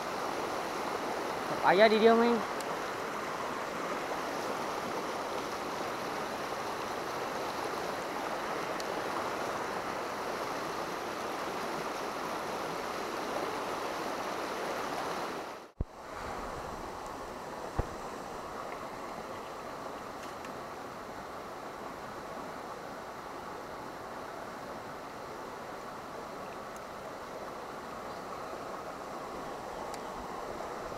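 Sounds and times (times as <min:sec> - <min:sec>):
river rushing over rocks: 0:00.0 - 0:30.9.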